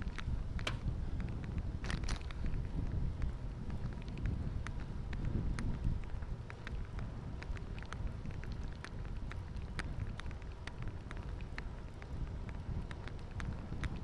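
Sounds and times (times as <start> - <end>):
bicycle clicks and rattles: 0.0 - 14.0
wind noise on microphone: 0.0 - 14.0.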